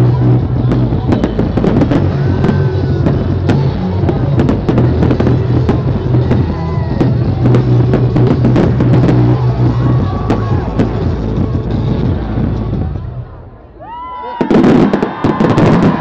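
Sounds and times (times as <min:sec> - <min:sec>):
loud music with bass line: 0:00.0 - 0:13.2
fireworks bangs and crackles: 0:00.0 - 0:13.4, 0:14.4 - 0:16.0.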